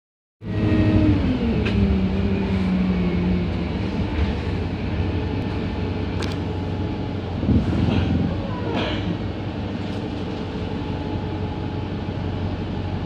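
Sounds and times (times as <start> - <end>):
bus engine and road rumble: 0.4 - 13.0.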